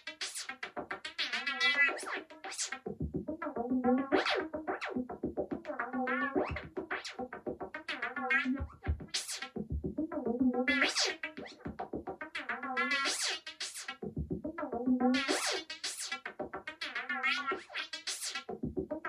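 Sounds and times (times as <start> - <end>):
synthesizer lines: 0.0 - 19.0
steady electronic beat: 2.3 - 17.6, 18.2 - 19.0.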